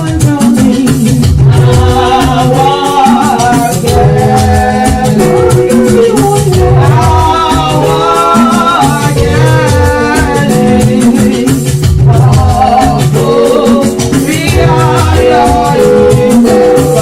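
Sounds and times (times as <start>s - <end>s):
shakers rhythm: 0.0s - 17.0s
strong bass: 0.0s - 17.0s
voices singing: 0.0s - 17.0s.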